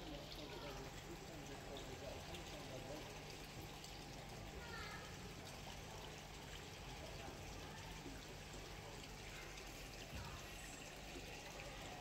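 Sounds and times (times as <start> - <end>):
water trickling into pond: 0.0 - 12.0.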